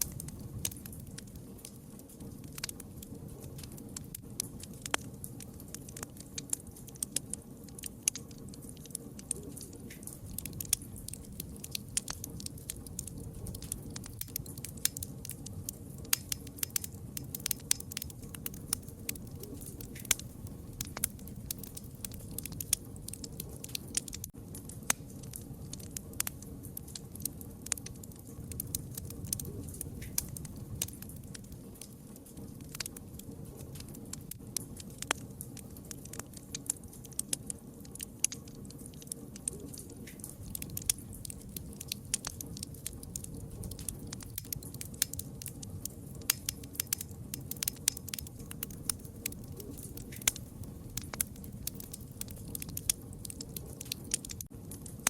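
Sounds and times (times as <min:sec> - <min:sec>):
campfire crackling and popping: 0:00.0 - 0:55.0
low rumble of burning: 0:00.0 - 0:55.0.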